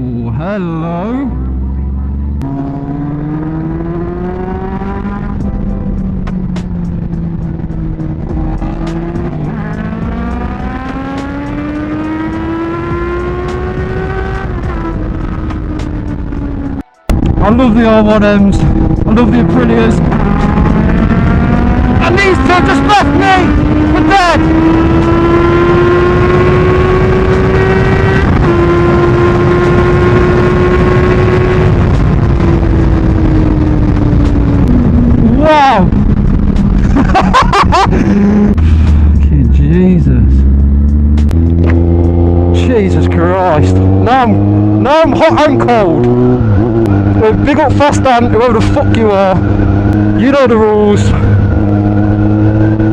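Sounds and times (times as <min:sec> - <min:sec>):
motorcycle engine accelerating: 0:00.0 - 0:52.9
wind rumble: 0:01.3 - 0:52.9.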